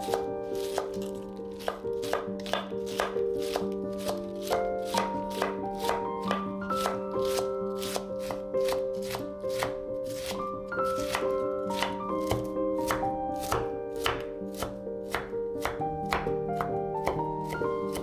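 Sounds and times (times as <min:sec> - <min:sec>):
background music: 0:00.0 - 0:18.0
knife shredding cabbage on board: 0:00.0 - 0:18.0.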